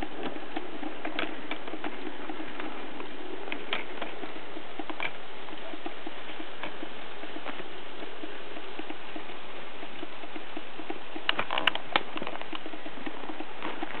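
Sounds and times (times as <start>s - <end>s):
wheels clicking on rails: 0.0s - 14.0s.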